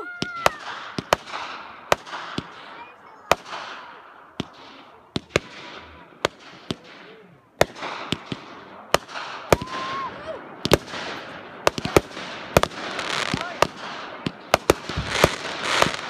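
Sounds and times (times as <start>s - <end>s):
firework whistling: 0.0s - 16.0s
fireworks bangs: 0.0s - 16.0s
fireworks crackle: 0.0s - 16.0s.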